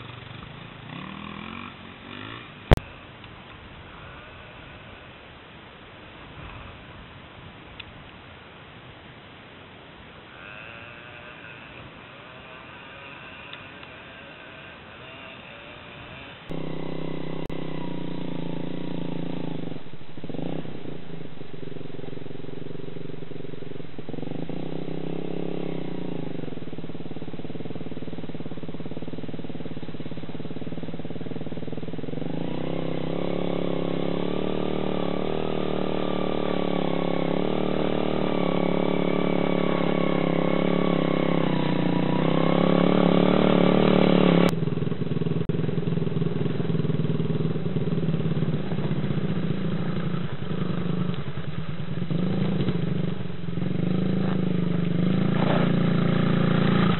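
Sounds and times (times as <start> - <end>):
dirt bike engine revving: 0.0 - 2.8, 10.3 - 56.9
dirt bike engine at low revs: 0.0 - 5.2, 10.2 - 56.9.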